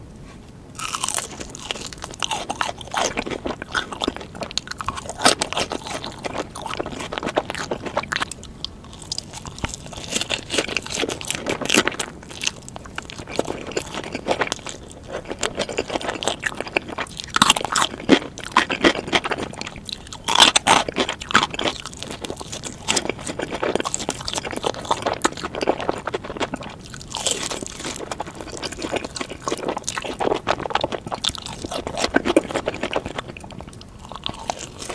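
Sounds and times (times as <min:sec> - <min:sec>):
crunching bites and chewing: 0:00.8 - 0:34.9.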